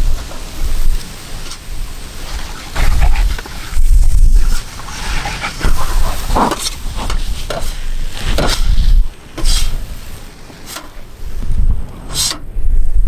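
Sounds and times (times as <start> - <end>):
spatula scraping a pan: 0.0 - 11.4
food sizzling in a pan: 0.0 - 12.3.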